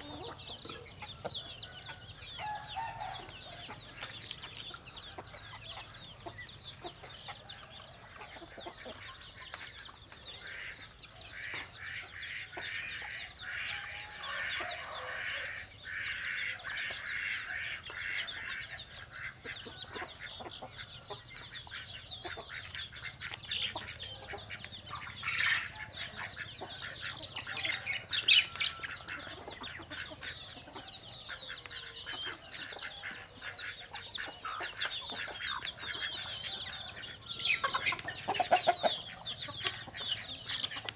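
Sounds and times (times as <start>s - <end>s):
chickens clucking and cheeping: 0.0s - 40.9s.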